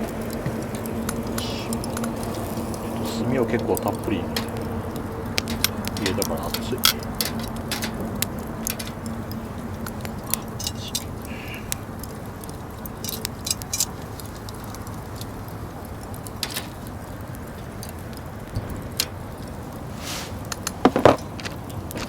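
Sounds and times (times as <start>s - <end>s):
steady low rush: 0.0s - 21.2s
charcoal crackling and popping: 0.0s - 22.0s.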